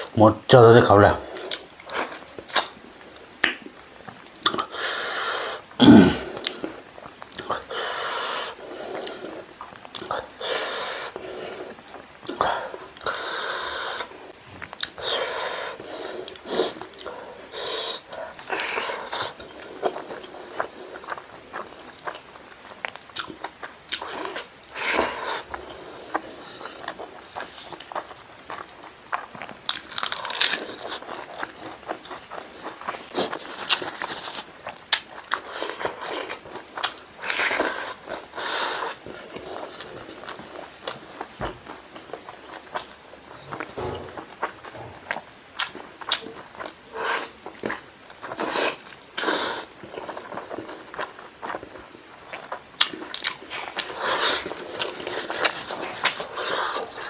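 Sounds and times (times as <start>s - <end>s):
person chewing and biting food: 5.5s - 57.0s.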